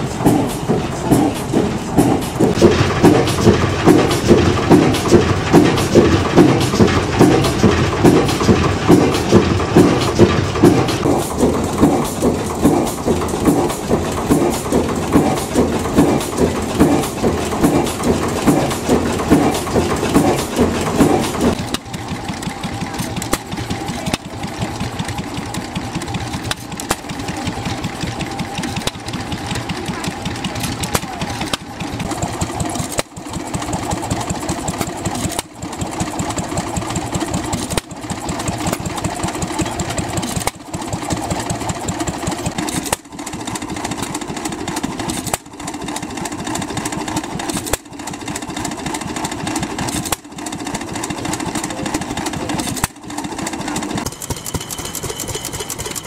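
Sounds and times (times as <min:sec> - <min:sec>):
heavy slow engine beat: 0:00.0 - 0:56.0
small stationary engine running: 0:00.0 - 0:56.0.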